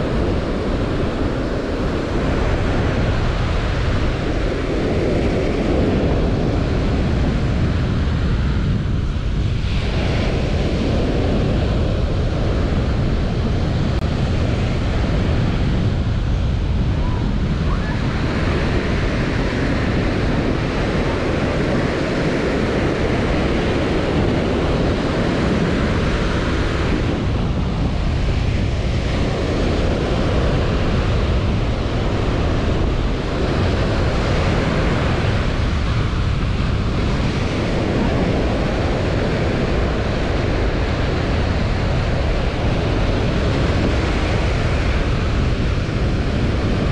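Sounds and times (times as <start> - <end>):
small waves washing on beach: 0.0 - 46.9
wind on microphone: 0.0 - 46.9.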